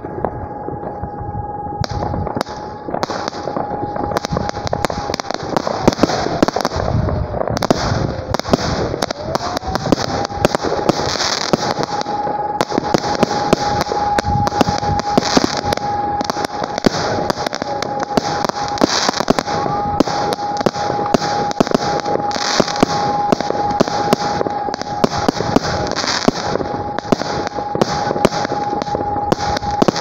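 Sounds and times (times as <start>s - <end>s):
fireworks banging: 0.0s - 30.0s
steady high tone: 0.0s - 30.0s
crackling hiss: 1.8s - 30.0s.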